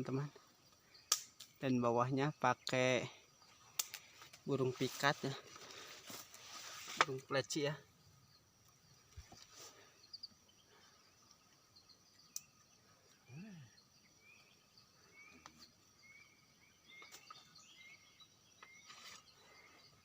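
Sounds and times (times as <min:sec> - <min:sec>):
insect drone: 0:00.0 - 0:20.0
small birds chirping: 0:00.0 - 0:20.0.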